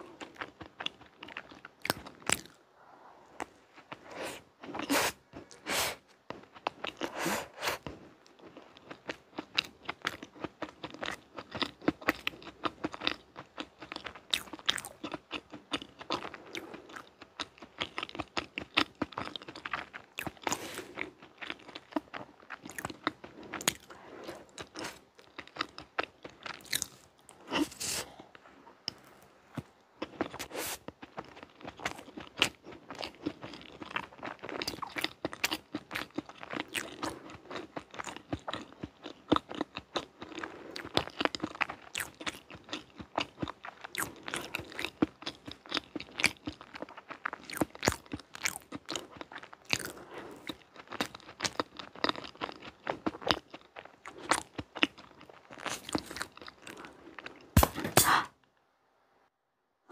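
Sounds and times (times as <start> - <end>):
chewing and mouth sounds: 0.0 - 58.1.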